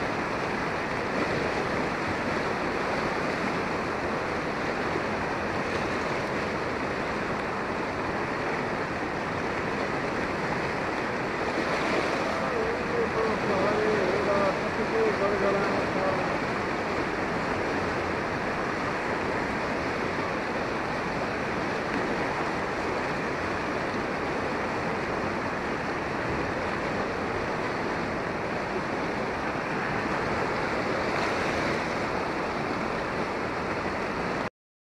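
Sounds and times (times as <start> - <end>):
floodwater rushing: 0.0 - 34.5.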